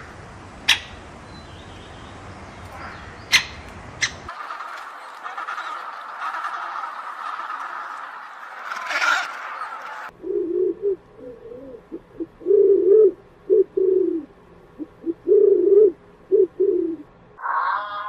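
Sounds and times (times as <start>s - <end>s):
pigeons cooing: 2.7s - 18.0s.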